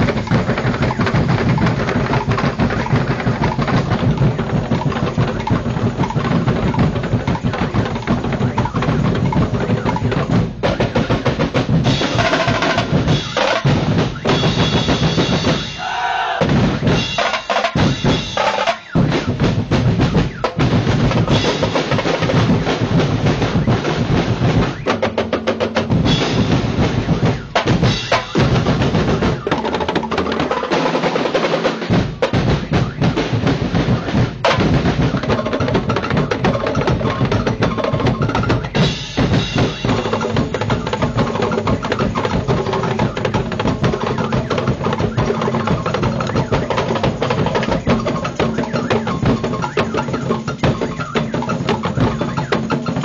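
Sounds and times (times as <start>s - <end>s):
drum corps playing: 0.0s - 53.0s.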